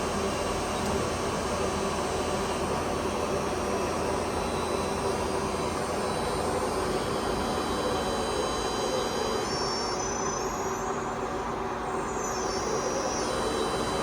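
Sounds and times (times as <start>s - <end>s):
lathe whirring and humming: 0.0s - 14.0s.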